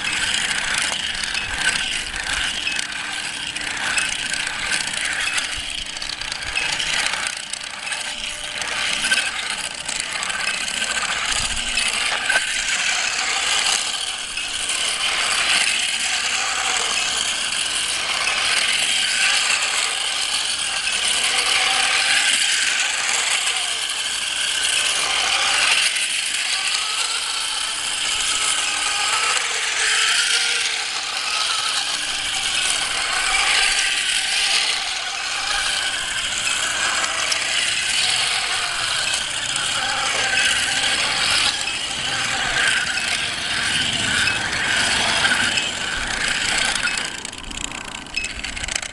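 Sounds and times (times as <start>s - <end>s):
robot motors whirring on asphalt: 0.0s - 48.9s.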